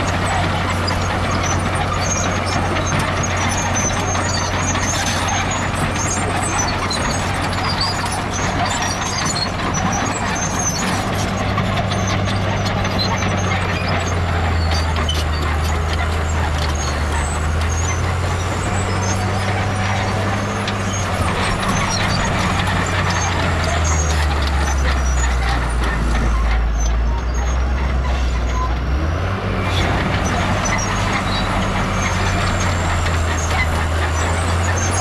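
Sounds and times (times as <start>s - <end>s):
metal and rock clanking: 0.0s - 28.8s
heavy diesel machine engine: 0.0s - 35.0s.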